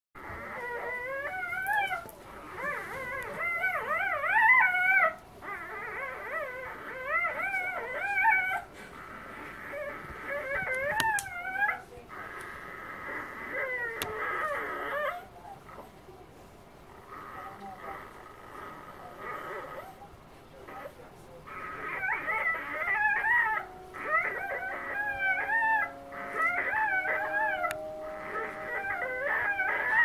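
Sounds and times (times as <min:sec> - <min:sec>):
puppy squealing and whining: 0:00.2 - 0:15.3, 0:20.7 - 0:30.0.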